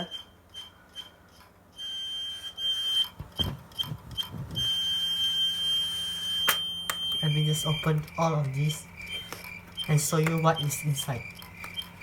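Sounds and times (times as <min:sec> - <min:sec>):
hard disk drive beeping whine: 0:00.0 - 0:12.0.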